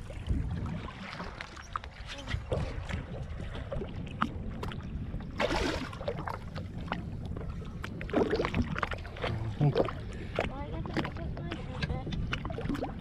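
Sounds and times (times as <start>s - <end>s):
water splashes and drips: 0.0s - 13.0s
waves slapping against boat hull: 0.0s - 13.0s.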